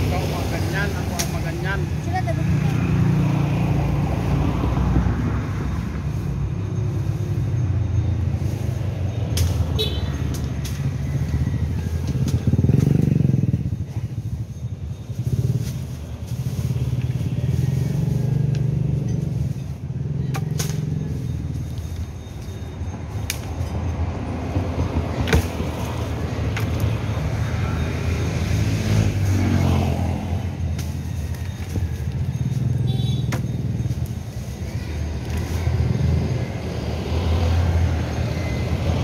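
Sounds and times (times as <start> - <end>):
motorcycle and car engines passing: 0.0 - 39.0.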